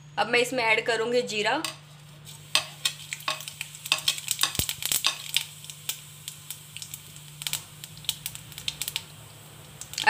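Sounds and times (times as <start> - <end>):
seeds popping in hot oil: 1.6 - 10.0.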